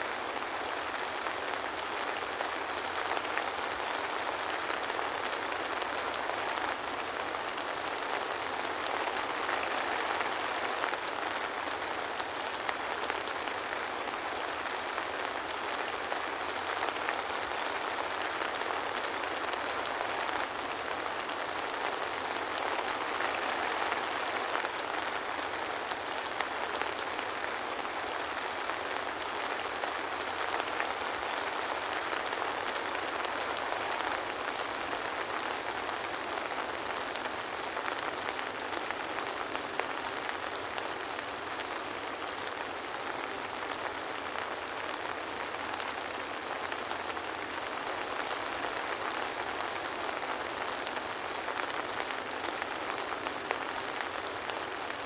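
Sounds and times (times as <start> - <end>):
soft rain patter: 0.0 - 55.0.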